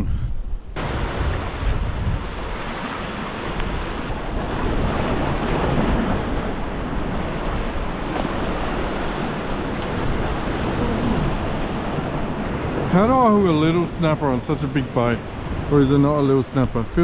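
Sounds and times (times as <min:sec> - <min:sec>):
wind buffeting microphone: 0:00.0 - 0:17.0
ocean swell breaking on rocks: 0:00.8 - 0:17.0.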